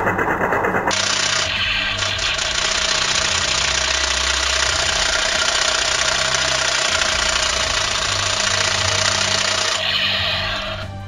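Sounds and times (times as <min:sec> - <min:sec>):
toy gun electronic rattle: 0:00.0 - 0:10.8.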